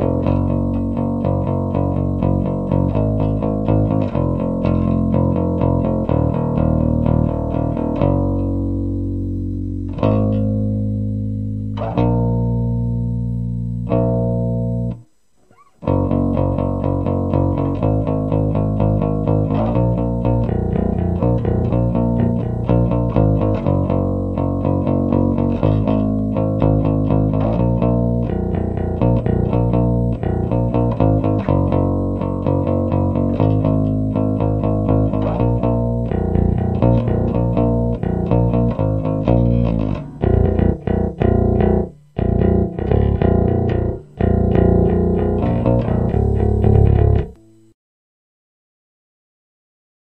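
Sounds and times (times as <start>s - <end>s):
electric bass played fingerstyle: 0.0s - 47.8s.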